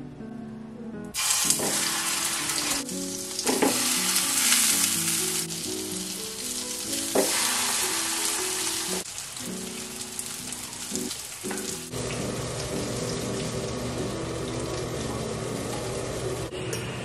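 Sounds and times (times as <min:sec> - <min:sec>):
soft background music: 0:00.0 - 0:17.0
sausages sizzling in a frying pan: 0:01.2 - 0:16.5.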